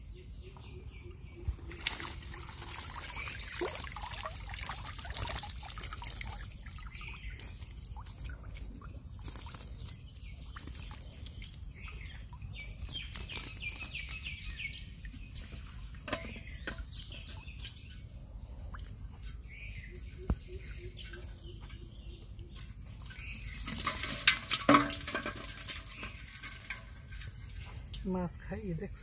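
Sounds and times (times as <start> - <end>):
birds chirping: 0.0 - 29.0
water splashing and dripping: 1.4 - 28.2.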